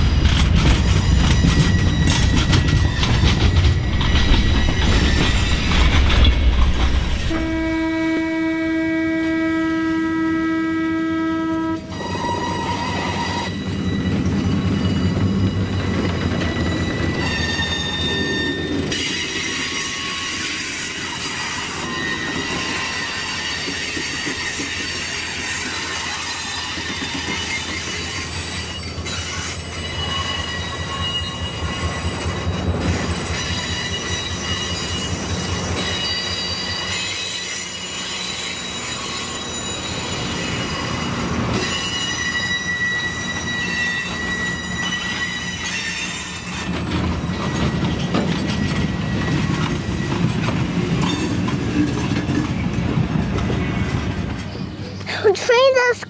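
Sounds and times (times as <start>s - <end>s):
train wheels squealing on rails: 0.0s - 10.0s, 11.5s - 55.4s
diesel locomotive engine rumbling: 0.0s - 56.0s.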